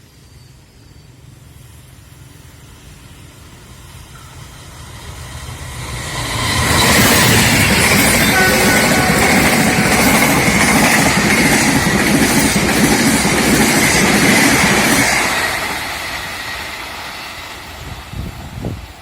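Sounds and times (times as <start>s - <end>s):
passenger train passing: 0.0s - 19.0s
wheels ringing on rails: 0.1s - 18.1s.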